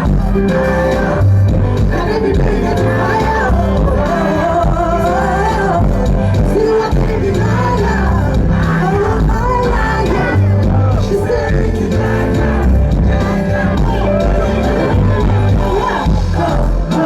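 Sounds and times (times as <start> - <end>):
heavy bass music: 0.0 - 17.0
person singing: 0.0 - 17.0.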